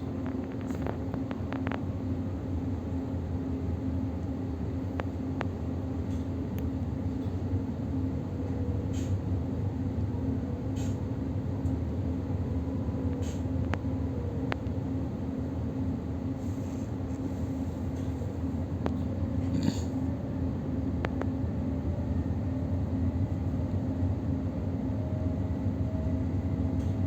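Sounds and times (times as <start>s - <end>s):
constant hum: 0.0s - 27.0s
train wheels rumbling on rails: 0.0s - 27.0s.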